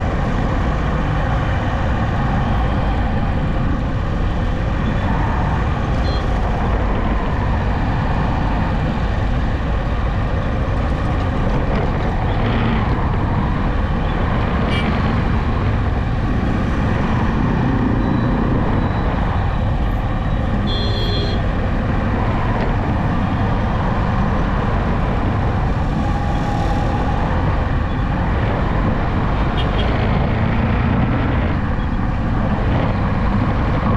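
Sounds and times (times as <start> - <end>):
vehicle road noise: 0.0 - 33.9.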